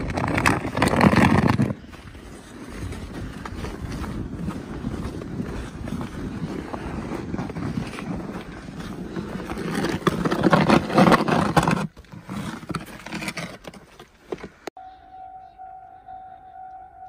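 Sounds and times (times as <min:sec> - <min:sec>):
snow crunching and scraping: 0:00.0 - 0:14.6.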